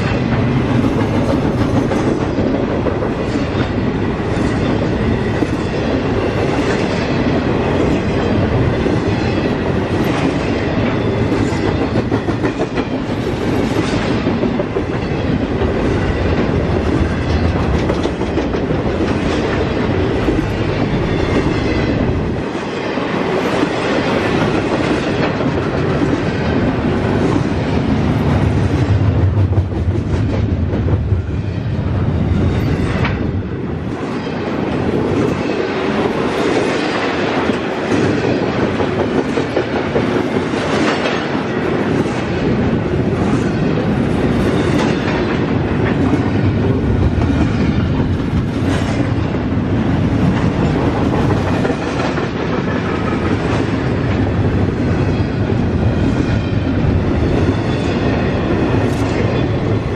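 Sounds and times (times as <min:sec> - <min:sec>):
freight train wheels clacking: 0:00.0 - 0:59.9.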